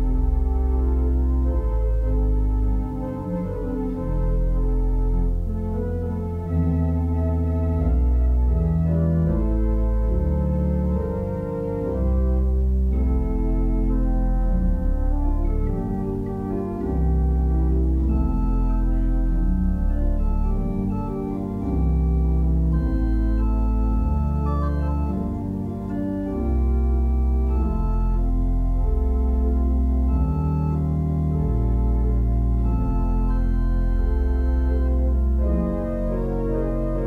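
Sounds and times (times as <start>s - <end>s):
organ playing slow chords: 0.0s - 37.0s.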